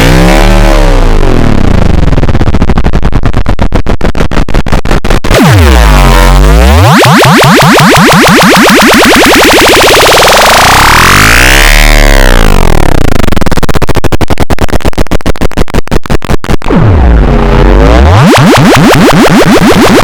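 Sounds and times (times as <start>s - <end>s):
distorted electronic fart tones: 0.0s - 20.0s.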